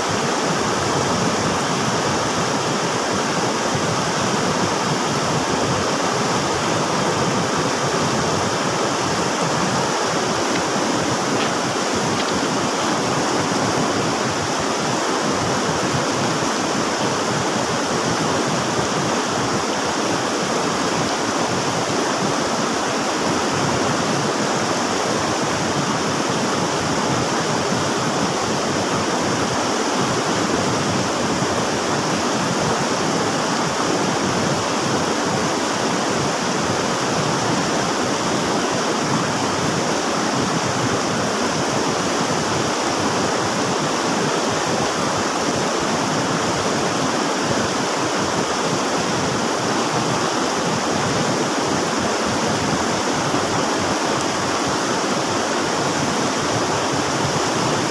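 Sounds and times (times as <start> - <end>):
river water rushing: 0.0 - 57.9.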